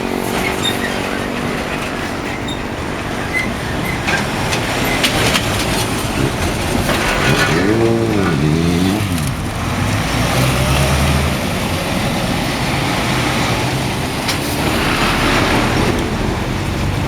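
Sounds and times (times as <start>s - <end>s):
engine hum: 0.0s - 17.0s
road noise: 0.0s - 17.0s
vehicles passing: 0.0s - 17.0s.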